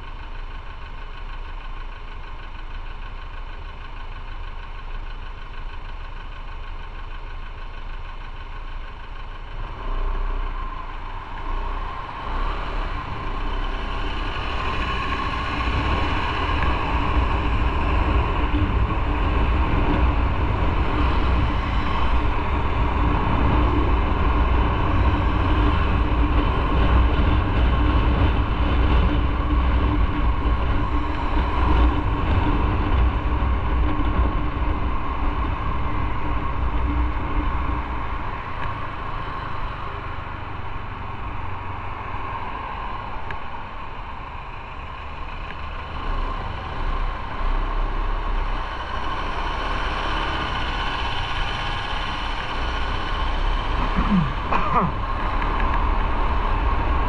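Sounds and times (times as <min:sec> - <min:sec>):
motorcycle engine running: 0:00.0 - 0:42.0, 0:42.8 - 0:57.0
wind and road noise: 0:00.0 - 0:57.0.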